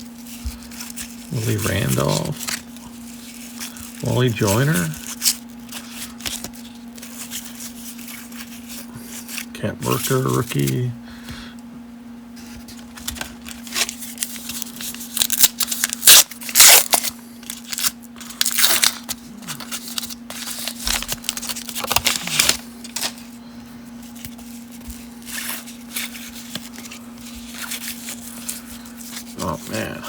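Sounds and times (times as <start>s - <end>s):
faint steady hum: 0.0s - 30.0s
paper and foil wrapper tearing: 0.1s - 10.9s, 12.7s - 23.4s, 24.0s - 30.0s.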